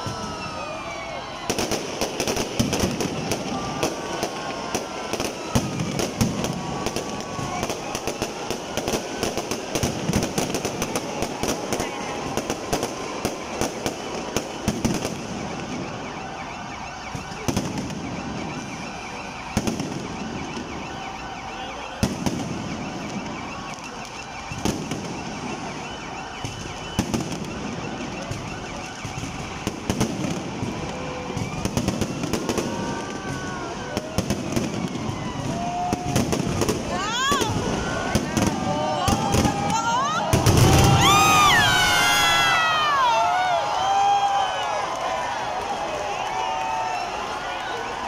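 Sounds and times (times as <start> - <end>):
fireworks crackling: 0.0 - 48.0
fireworks whistling: 0.0 - 48.0.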